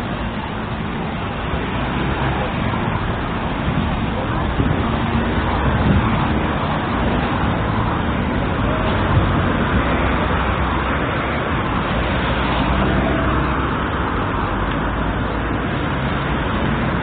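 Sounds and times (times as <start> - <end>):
cars passing on road: 0.0 - 17.0.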